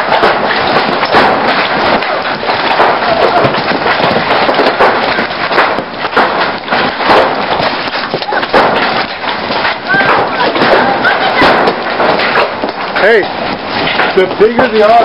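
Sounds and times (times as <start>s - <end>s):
hailstones clattering: 0.0s - 15.0s
steady rushing noise: 0.0s - 15.0s.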